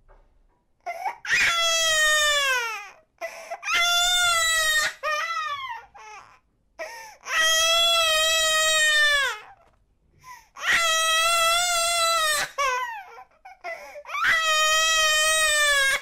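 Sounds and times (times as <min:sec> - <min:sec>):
baby crying: 0:00.9 - 0:09.6, 0:10.6 - 0:16.0.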